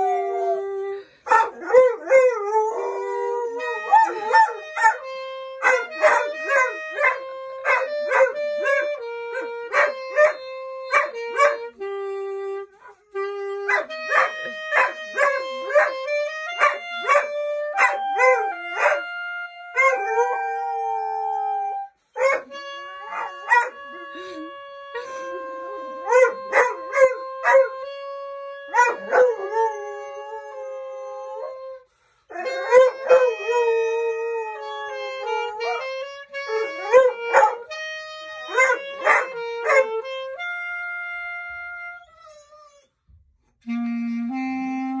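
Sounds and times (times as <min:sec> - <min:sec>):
clarinet playing held notes: 0:00.0 - 0:45.0.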